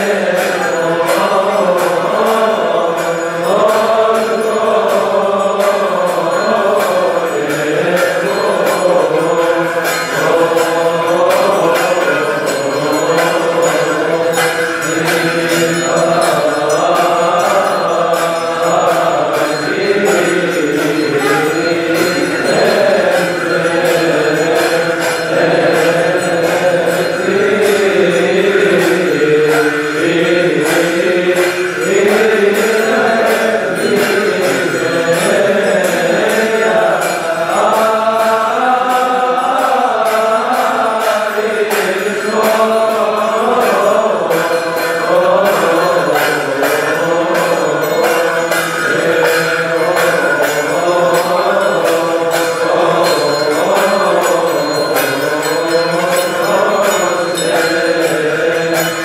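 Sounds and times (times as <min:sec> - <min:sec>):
hand cymbals beating: 0:00.0 - 0:59.0
voices chanting a hymn: 0:00.0 - 0:59.0.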